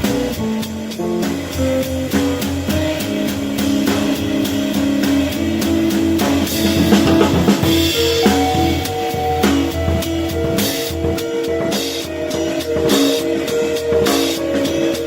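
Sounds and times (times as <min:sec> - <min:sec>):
bass: 0:00.0 - 0:15.0
drum kit with cymbal hits: 0:00.0 - 0:15.0
guitar: 0:00.0 - 0:15.0.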